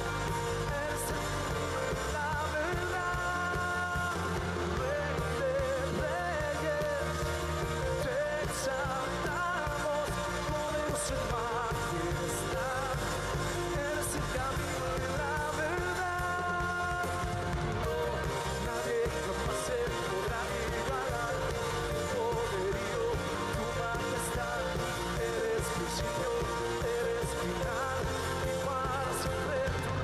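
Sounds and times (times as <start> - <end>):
person singing with a band: 0.0 - 30.0.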